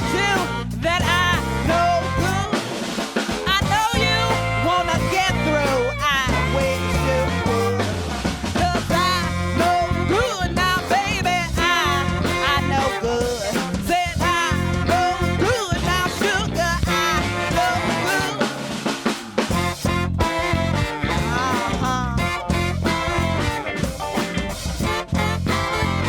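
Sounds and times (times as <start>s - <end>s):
bass line: 0.0s - 26.0s
bending lead melody: 0.0s - 26.0s
drum kit: 0.0s - 26.0s.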